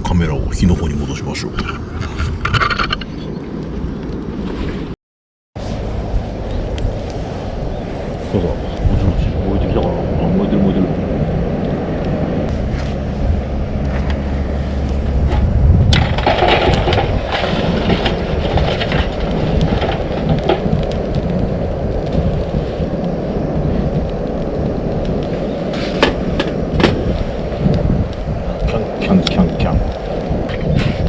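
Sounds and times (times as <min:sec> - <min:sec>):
campfire crackling and popping: 0:05.6 - 0:31.0
low rumble: 0:05.6 - 0:31.0.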